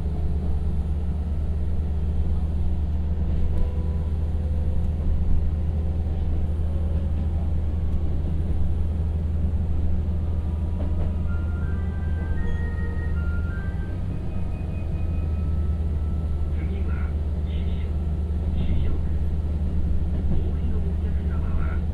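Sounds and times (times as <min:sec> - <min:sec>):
diesel engine rumble: 0:00.0 - 0:21.9.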